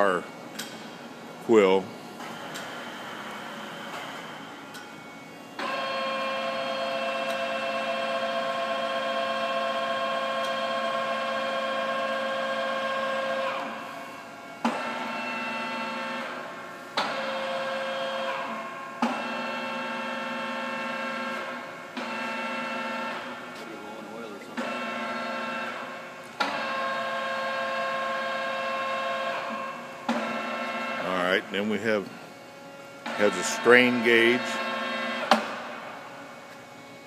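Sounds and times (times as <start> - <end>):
lathe feed motor whine: 2.0 - 37.0.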